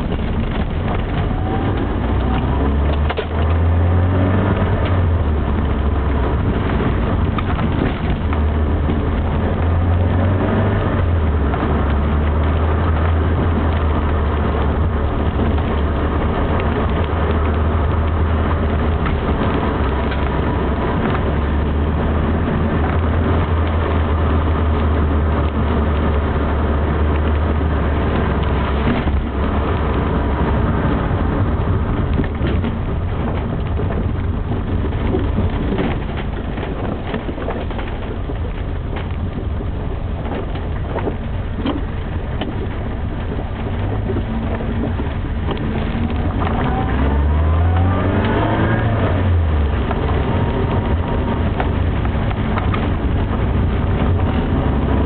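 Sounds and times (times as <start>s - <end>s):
car engine drone: 0.0s - 55.0s
tyre and road noise: 0.0s - 55.0s.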